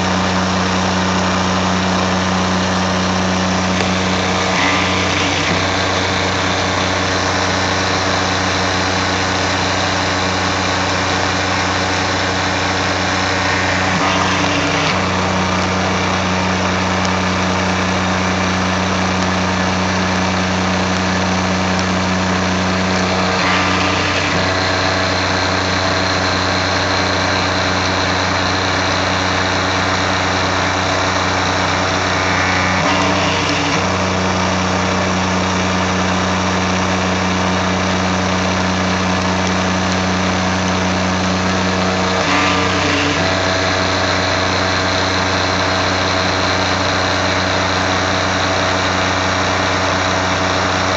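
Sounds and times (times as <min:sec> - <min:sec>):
mill cutting steel: 0:00.0 - 0:50.9.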